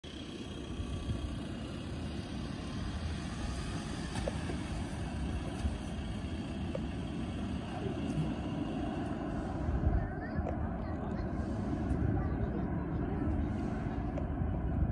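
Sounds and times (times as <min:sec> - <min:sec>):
distant airliner rumble: 0:00.0 - 0:14.9.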